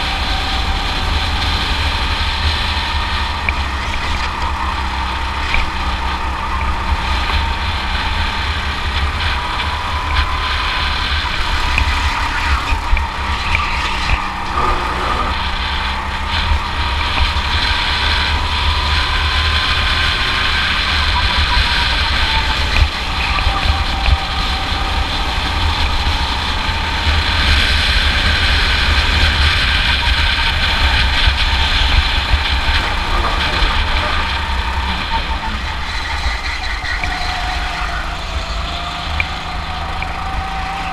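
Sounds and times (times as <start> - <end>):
constant low rumble: 0.0 - 40.9
go-kart engine running: 0.0 - 40.9.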